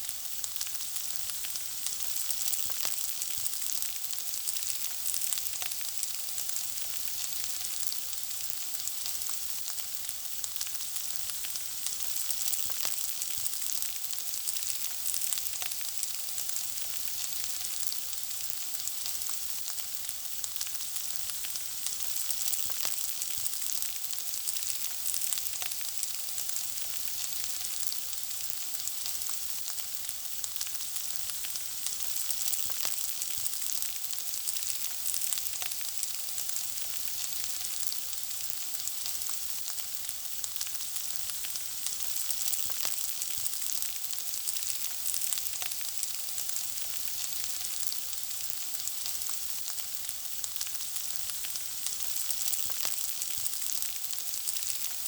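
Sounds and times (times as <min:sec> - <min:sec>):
food sizzling in hot fat: 0:00.0 - 0:55.0.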